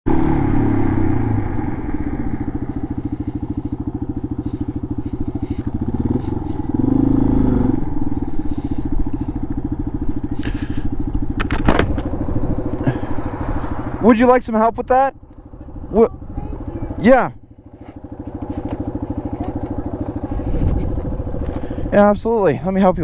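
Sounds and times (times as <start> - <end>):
motorcycle engine running: 0.1 - 23.0.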